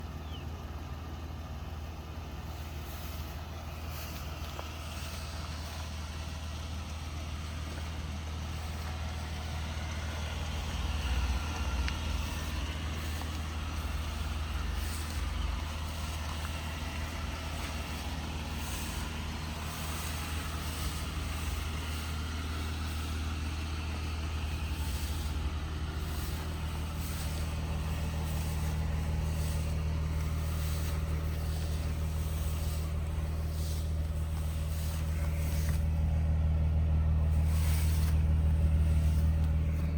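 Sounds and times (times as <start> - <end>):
pickup truck engine idling: 0.0 - 39.9.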